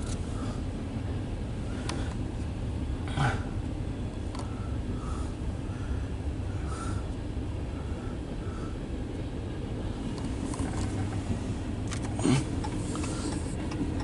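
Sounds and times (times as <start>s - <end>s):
freight cars rumbling past: 0.0s - 14.0s.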